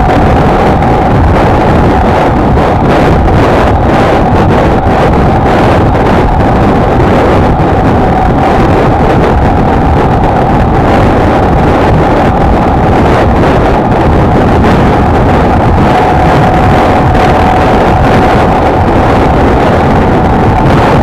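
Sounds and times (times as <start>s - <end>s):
faint steady whine: 0.0s - 21.0s
wind buffeting microphone: 0.0s - 21.0s.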